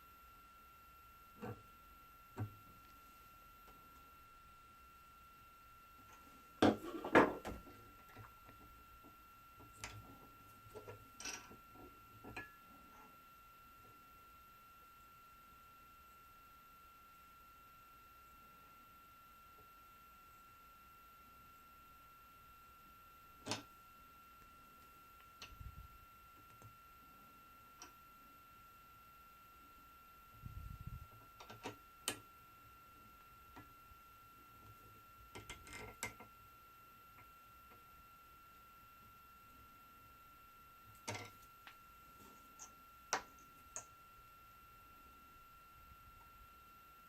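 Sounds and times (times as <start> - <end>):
faint high-pitched whine: 0.0 - 47.0.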